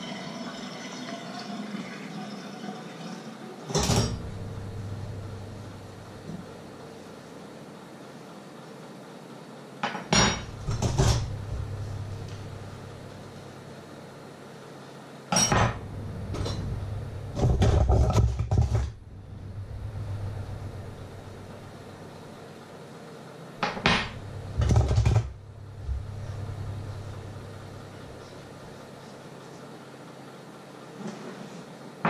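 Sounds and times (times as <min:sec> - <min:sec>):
steady low hum: 0:03.7 - 0:32.0.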